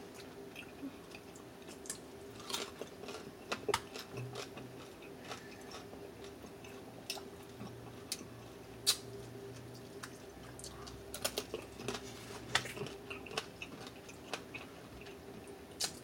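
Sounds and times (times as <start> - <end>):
chewing and crunching: 0.1 - 16.0.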